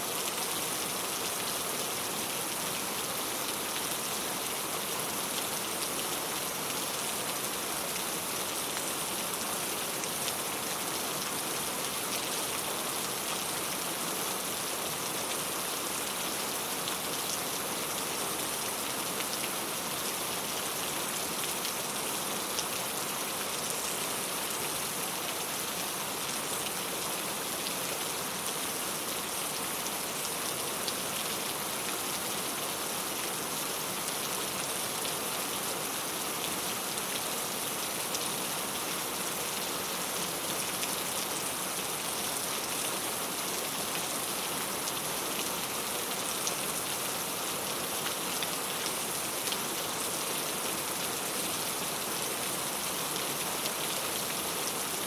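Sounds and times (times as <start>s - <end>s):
rain pattering on a tile roof: 0.1s - 55.0s.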